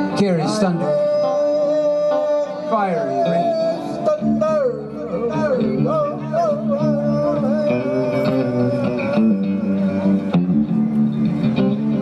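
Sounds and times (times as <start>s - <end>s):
live band guitars and bass: 0.0s - 12.0s
wavering lead guitar note: 0.0s - 12.0s.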